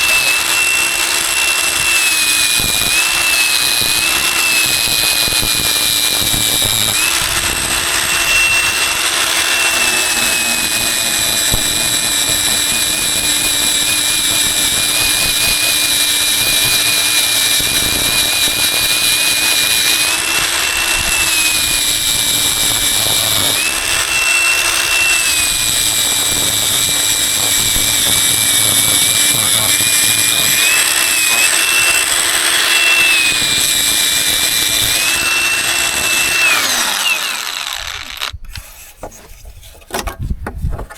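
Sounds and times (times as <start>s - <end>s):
power tool motor whining: 0.0s - 39.5s.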